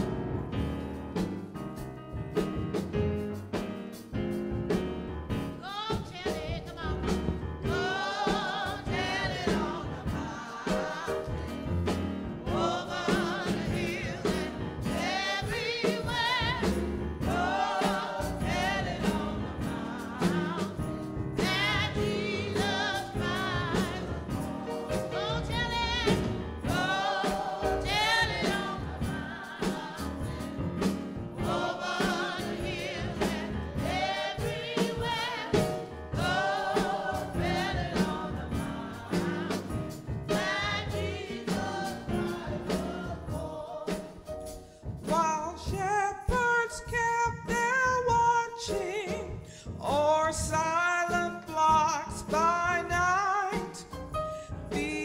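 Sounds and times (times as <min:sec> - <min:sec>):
instrumental accompaniment: 0:00.0 - 0:45.9
choir singing gospel music: 0:00.0 - 0:55.0.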